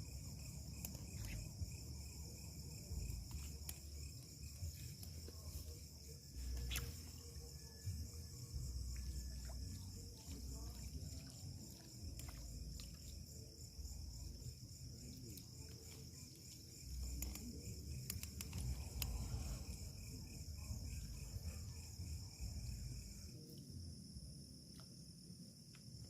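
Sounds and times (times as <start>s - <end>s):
crickets and insects chorus: 0.0s - 26.0s.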